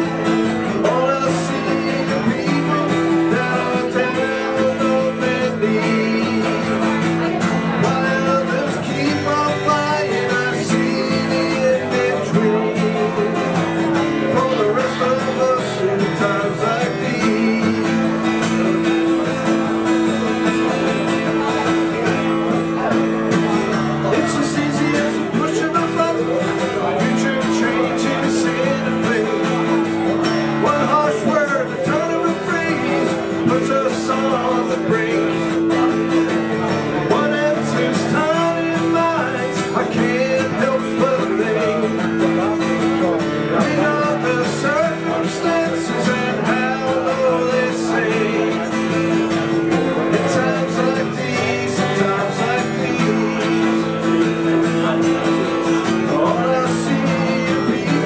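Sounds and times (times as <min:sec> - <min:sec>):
acoustic guitar country-folk: 0:00.0 - 0:58.0
man singing: 0:00.0 - 0:58.0.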